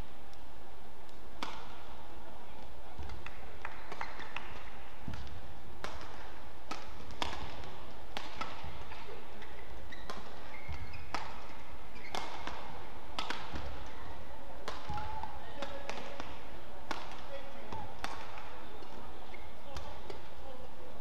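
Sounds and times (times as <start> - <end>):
rackets striking shuttlecock: 1.0 - 2.0, 2.6 - 20.3
court shoes squeaking: 2.9 - 16.3, 16.9 - 20.5.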